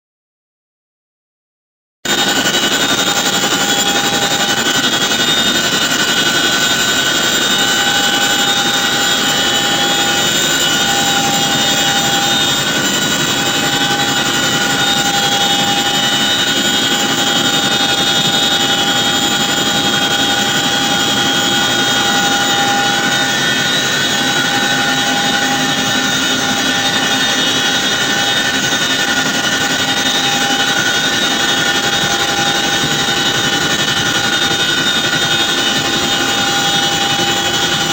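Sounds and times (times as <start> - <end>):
helicopter engine and rotor noise: 2.0 - 37.9
high steady tones: 2.1 - 37.9.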